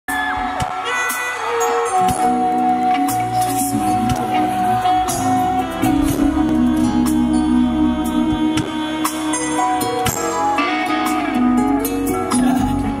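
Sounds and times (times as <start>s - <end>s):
live band playing pop-rock: 0.1s - 13.0s.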